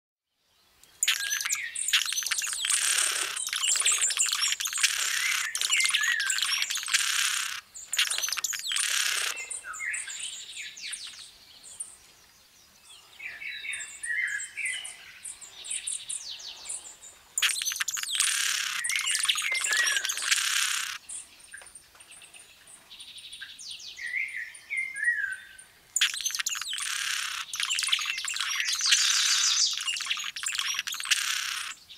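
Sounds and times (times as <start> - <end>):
birds chirping and twittering: 0.4 - 31.9.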